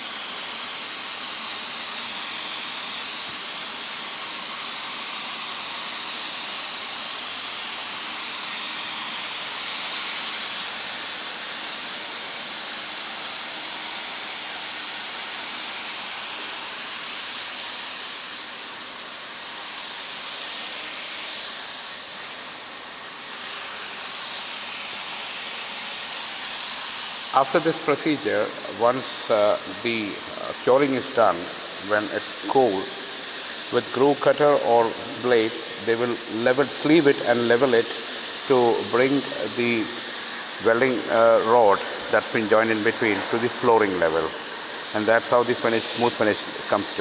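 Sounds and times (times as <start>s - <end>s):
hot-air welding gun hissing: 0.0s - 47.0s.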